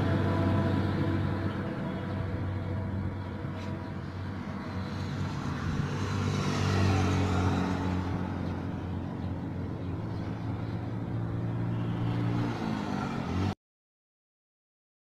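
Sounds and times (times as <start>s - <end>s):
lorry diesel engine droning: 0.0s - 13.6s.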